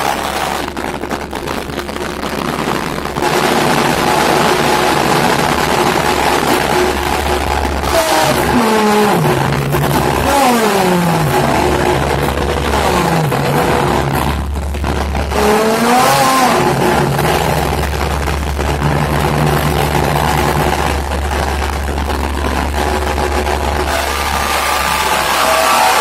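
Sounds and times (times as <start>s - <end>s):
distorted noise music: 0.0s - 26.0s
low drone: 0.0s - 26.0s
whine sweeping down in pitch: 0.0s - 26.0s.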